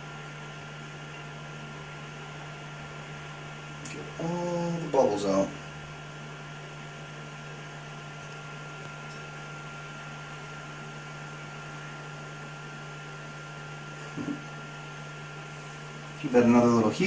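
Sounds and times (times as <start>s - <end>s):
faint high whine: 0.0s - 17.0s
room hum and hiss: 0.0s - 17.0s.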